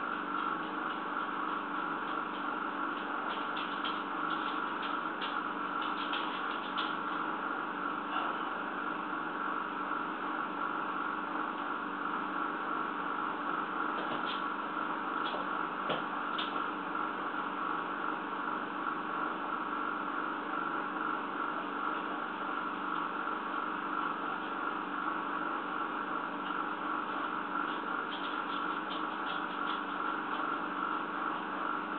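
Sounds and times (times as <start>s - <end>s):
steady hum and hiss: 0.0s - 31.9s.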